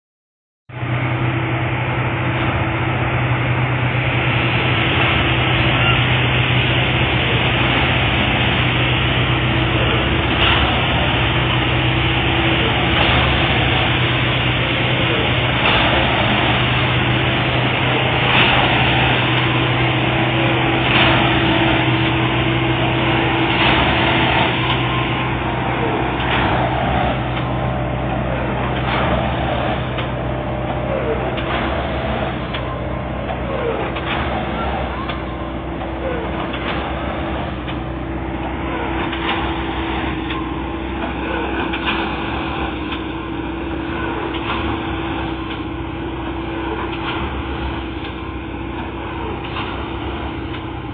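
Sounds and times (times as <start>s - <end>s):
tamping machine diesel drone: 0.7s - 50.9s.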